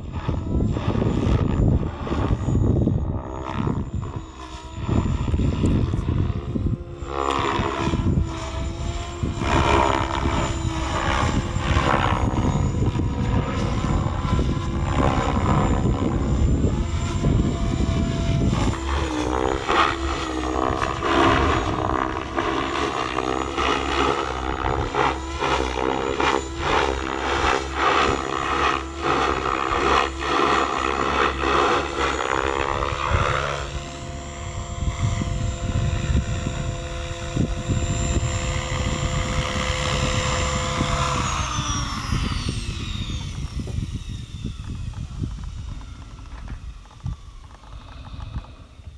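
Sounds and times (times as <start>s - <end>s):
electric motor whining: 0.0s - 48.9s
helicopter rotor blades buzzing: 0.0s - 48.9s.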